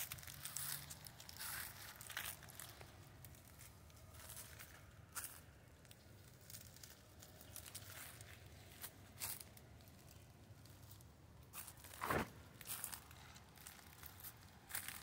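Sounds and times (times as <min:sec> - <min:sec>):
footsteps in dry leaves: 0:00.0 - 0:10.1, 0:11.5 - 0:15.0.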